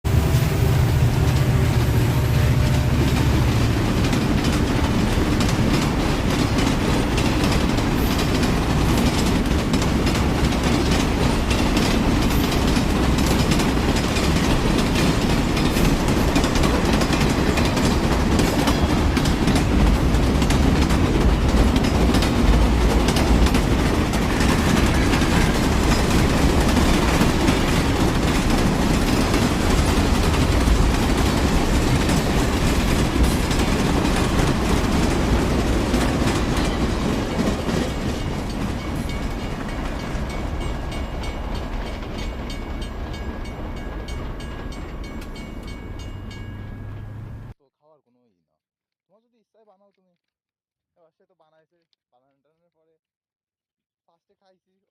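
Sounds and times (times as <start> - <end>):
train wheels rumbling: 0.0 - 47.6
wheels clicking over rail joints: 2.3 - 47.5.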